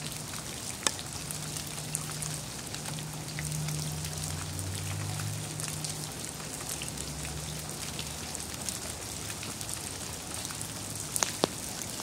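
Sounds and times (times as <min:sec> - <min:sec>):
wet snow and drips pattering: 0:00.0 - 0:12.0.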